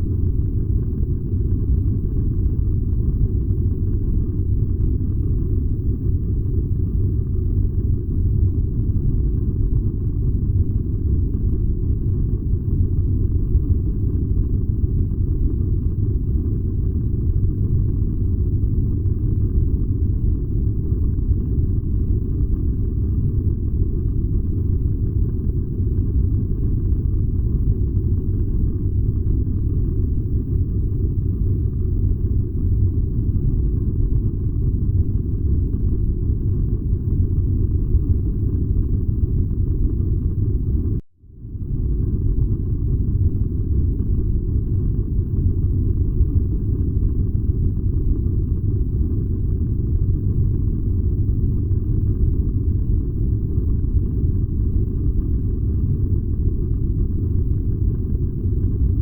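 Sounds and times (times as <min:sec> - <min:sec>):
furnace low rumble: 0:00.0 - 0:59.0.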